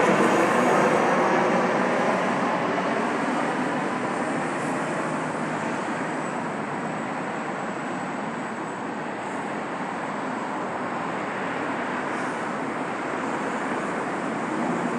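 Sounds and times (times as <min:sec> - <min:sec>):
faint high engine whine: 0:00.0 - 0:14.9
jet engines rushing: 0:00.0 - 0:14.9.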